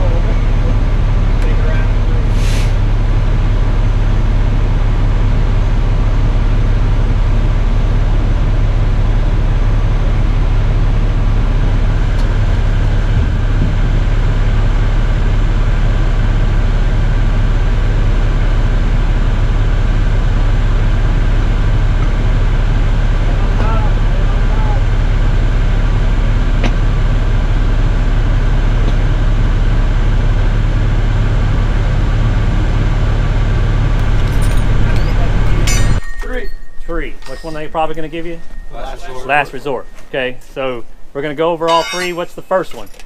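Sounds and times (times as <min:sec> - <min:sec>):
low-pitched machinery drone: 0:00.0 - 0:42.6.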